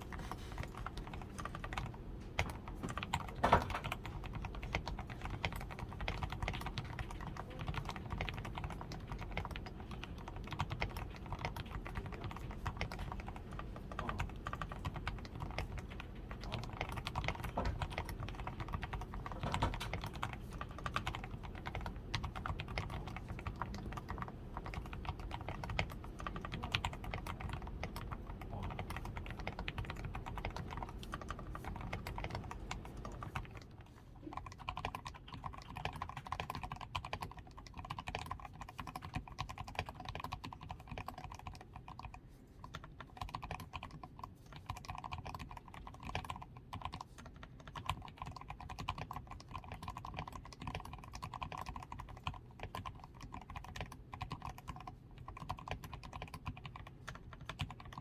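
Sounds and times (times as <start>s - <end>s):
typing on mechanical keyboard: 0.0s - 58.0s.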